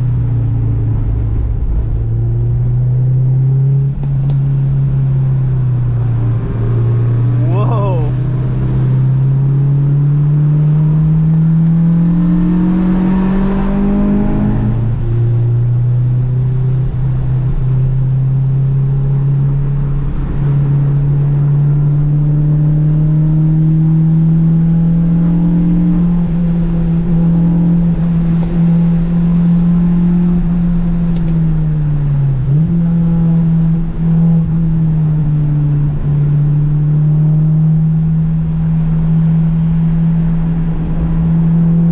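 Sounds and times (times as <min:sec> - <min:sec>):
car engine pulling hard: 0:00.0 - 0:41.9.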